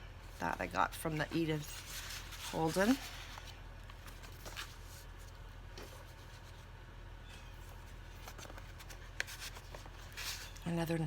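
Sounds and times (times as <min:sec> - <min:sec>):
low electrical hum: 0:00.0 - 0:11.0
paper rustling: 0:00.4 - 0:06.7, 0:07.5 - 0:10.7.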